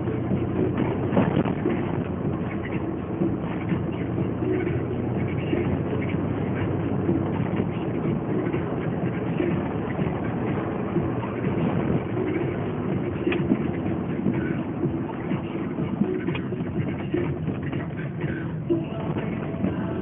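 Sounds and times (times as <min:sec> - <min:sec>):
car engine running: 0:00.0 - 0:20.0
tyres rumbling on road: 0:00.0 - 0:20.0.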